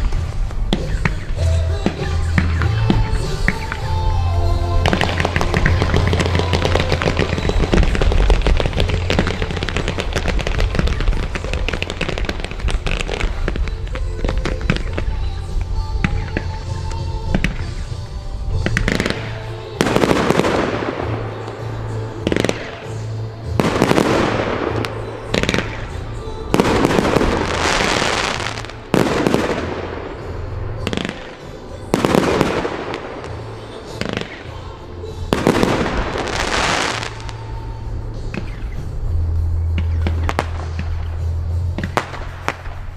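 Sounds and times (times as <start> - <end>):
fireworks banging and crackling: 0.0 - 42.9.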